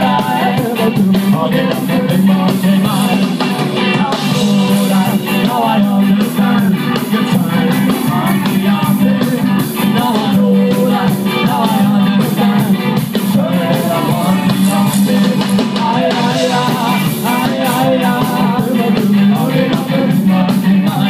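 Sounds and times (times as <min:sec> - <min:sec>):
drum kit: 0:00.0 - 0:21.0
electric guitars: 0:00.0 - 0:21.0
person singing: 0:00.0 - 0:21.0.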